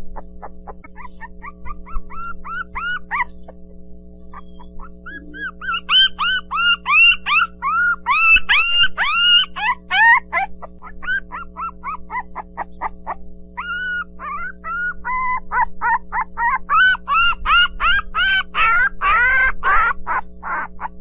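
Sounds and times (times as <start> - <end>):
puppies yipping and whining: 0.0 - 21.0
steady low hum: 0.0 - 21.0.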